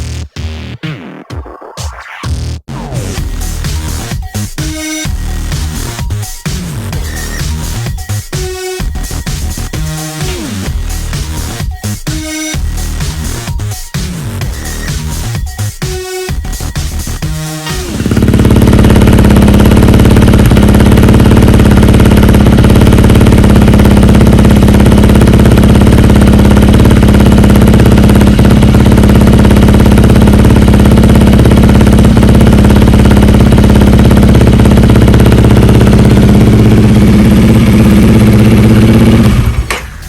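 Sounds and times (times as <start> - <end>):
motorcycle engine idling: 3.2 - 40.0.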